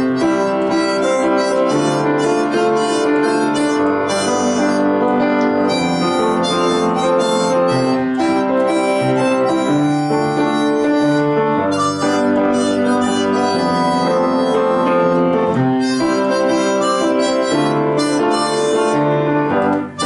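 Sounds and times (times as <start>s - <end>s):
instrumental music: 0.0s - 20.0s.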